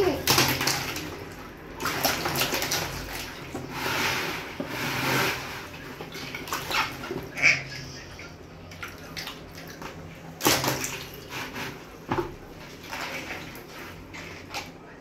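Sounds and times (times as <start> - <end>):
water splashing: 0.0 - 11.8, 12.5 - 14.7.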